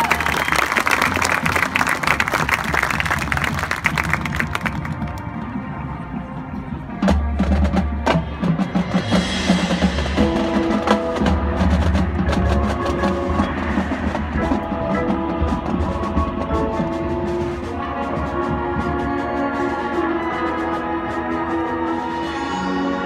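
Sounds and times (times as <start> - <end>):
marching band held chords: 0.0 - 23.0.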